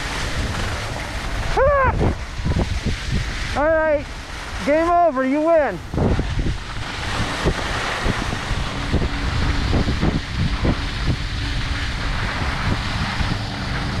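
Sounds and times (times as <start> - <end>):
skis sliding on snow: 0.0 - 14.0
wind rushing over microphone: 0.0 - 14.0.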